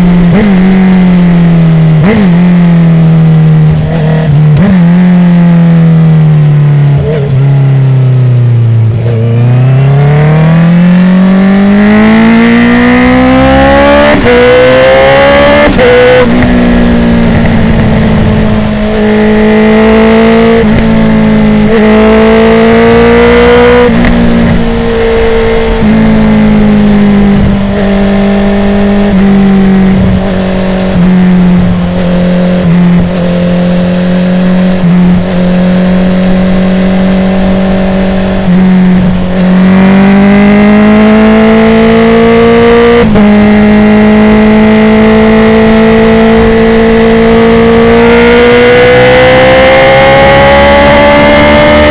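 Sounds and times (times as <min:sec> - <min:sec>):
motorcycle accelerating hard: 0:00.0 - 0:51.9.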